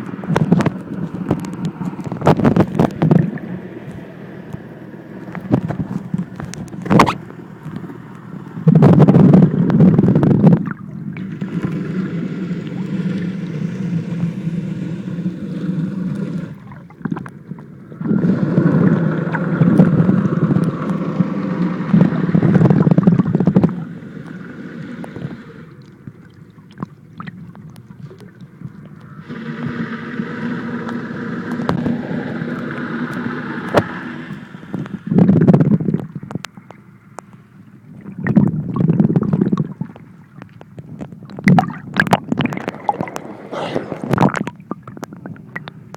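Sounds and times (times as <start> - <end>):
low steady hum: 0.0 - 45.9
water gurgling underwater: 0.0 - 45.9.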